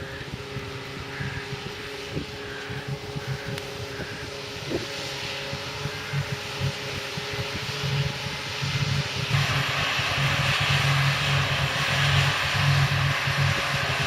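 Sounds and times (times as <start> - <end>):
large diesel engine running: 0.0 - 14.0.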